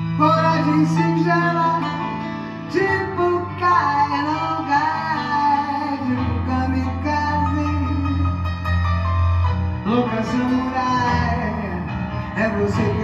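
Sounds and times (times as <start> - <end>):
electric keyboard playing: 0.0 - 13.0.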